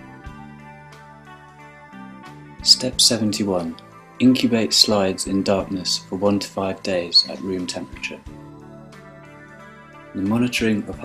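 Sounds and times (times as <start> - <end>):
quiet instrumental music: 0.0 - 11.0.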